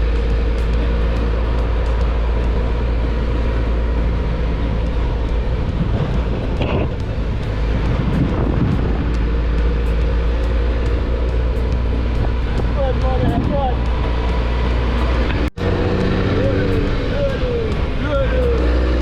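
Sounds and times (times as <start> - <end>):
vehicle engine and road rumble: 0.0 - 19.0.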